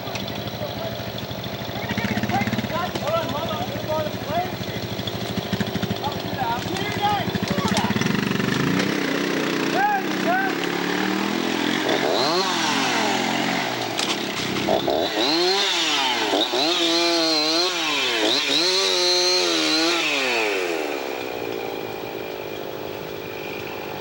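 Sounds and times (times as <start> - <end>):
chainsaw revving: 0.0 - 24.0.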